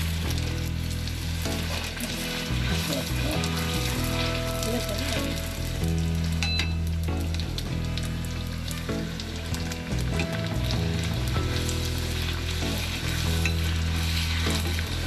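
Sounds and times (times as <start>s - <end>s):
deep-frying sizzle and popping: 0.0s - 15.0s.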